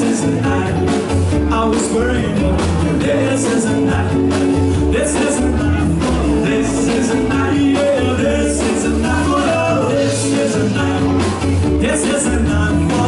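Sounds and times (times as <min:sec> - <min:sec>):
drums: 0:00.0 - 0:13.0
electric guitar: 0:00.0 - 0:13.0
person singing: 0:00.0 - 0:13.0
upright double bass: 0:00.0 - 0:13.0.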